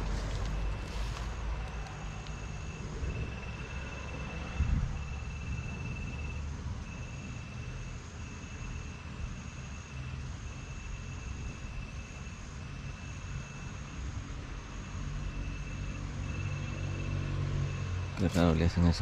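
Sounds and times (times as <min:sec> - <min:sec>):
constant low rumble: 0:00.0 - 0:19.0
insects trilling: 0:00.0 - 0:19.0.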